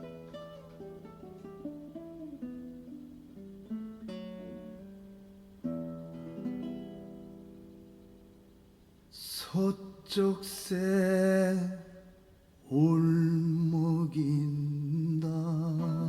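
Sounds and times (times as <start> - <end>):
acoustic guitar playing slowly: 0.0 - 16.0.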